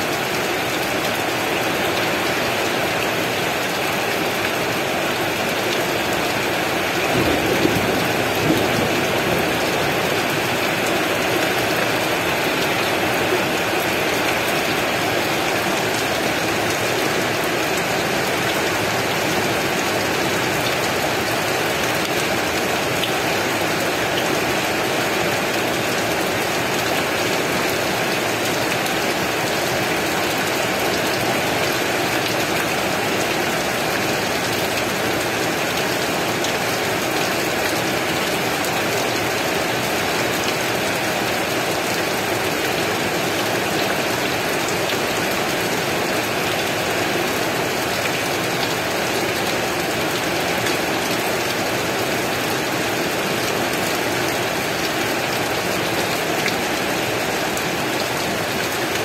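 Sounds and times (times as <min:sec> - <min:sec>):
heavy rain falling: 0:00.0 - 0:59.0
rain spatters: 0:00.0 - 0:59.0.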